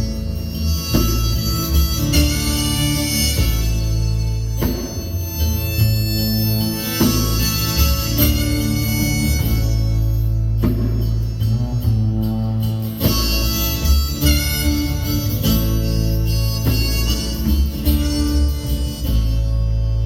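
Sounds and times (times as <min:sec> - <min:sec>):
live band instrumental: 0:00.0 - 0:20.0.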